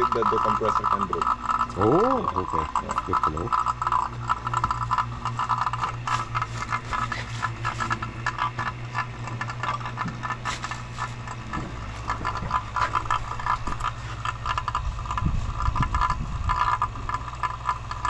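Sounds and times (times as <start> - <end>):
vacuum pump rattling: 0.0 - 18.0.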